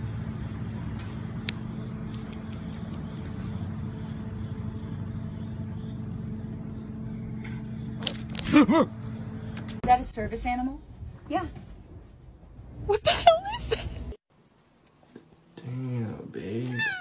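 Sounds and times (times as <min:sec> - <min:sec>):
low mechanical hum: 0:00.0 - 0:16.7.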